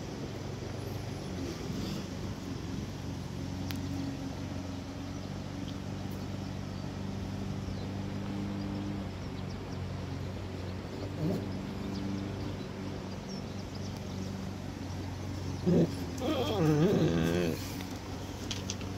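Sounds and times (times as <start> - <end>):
engine droning: 0.0 - 18.9.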